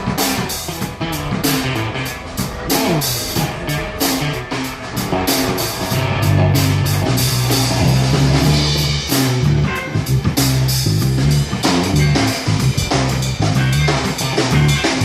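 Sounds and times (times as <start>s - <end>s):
drum kit beat: 0.0s - 15.0s
electric guitar: 0.0s - 15.0s
low bass notes: 0.0s - 15.0s.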